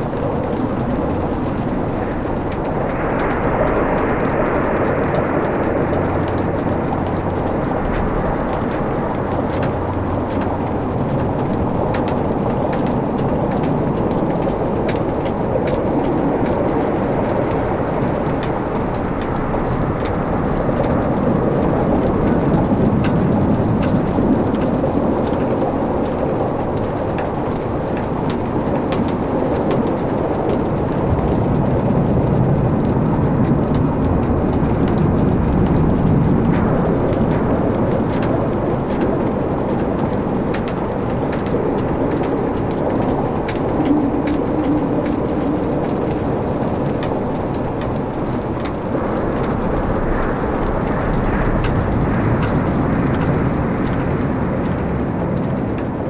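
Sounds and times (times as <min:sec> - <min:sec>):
fire crackling and popping: 0:00.0 - 0:56.0
fire flames rushing: 0:00.0 - 0:56.0.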